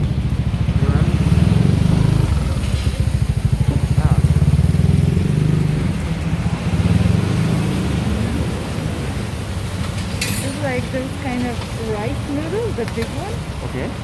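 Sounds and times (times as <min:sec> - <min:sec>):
motorcycle engines rumbling: 0:00.0 - 0:14.0
street traffic: 0:00.0 - 0:14.0.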